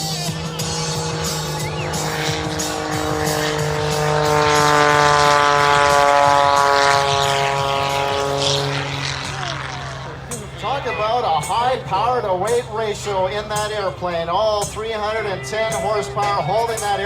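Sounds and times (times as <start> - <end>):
propeller airplane droning: 0.0 - 17.0.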